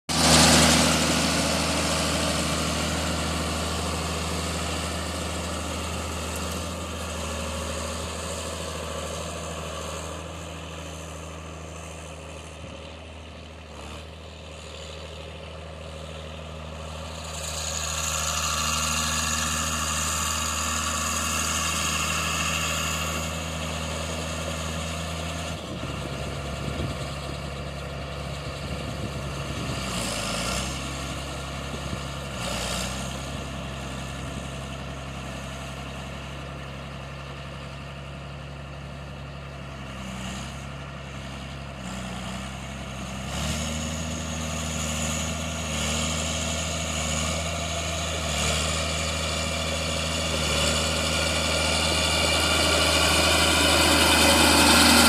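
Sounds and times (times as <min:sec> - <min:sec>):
diesel tractor engine idling: 0:00.1 - 0:55.0.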